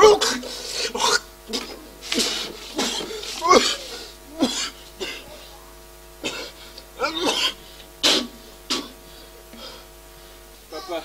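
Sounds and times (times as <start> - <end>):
man coughing hard: 0.0 - 5.4, 6.2 - 9.9, 10.7 - 11.0.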